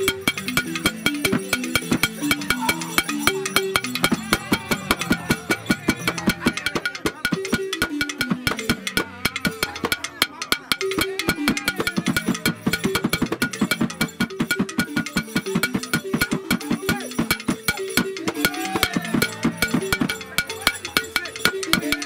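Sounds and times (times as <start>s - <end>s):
wooden xylophones playing: 0.0s - 22.0s.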